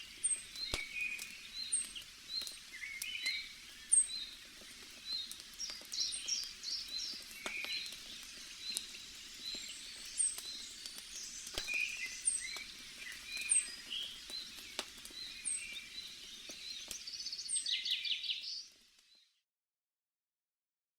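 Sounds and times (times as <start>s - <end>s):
birds chirping: 0.0s - 18.8s
campfire crackling and popping: 0.0s - 19.2s.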